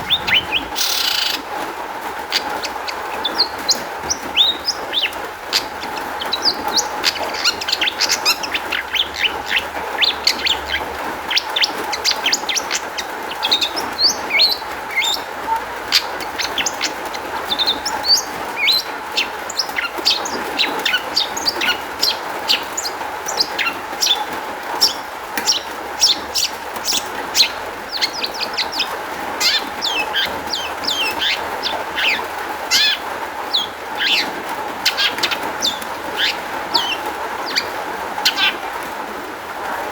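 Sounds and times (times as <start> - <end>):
bird singing rapid chirps: 0.0 - 1.6, 2.3 - 38.6.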